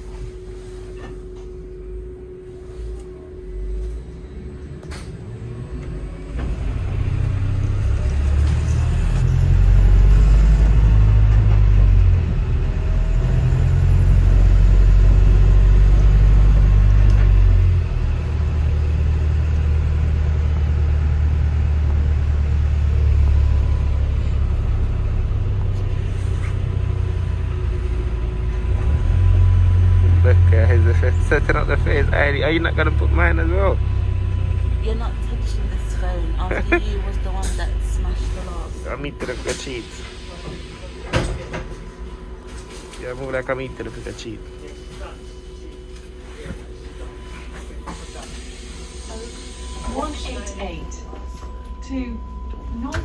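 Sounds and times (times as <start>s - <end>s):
bus engine rumble from inside: 0.0s - 53.0s.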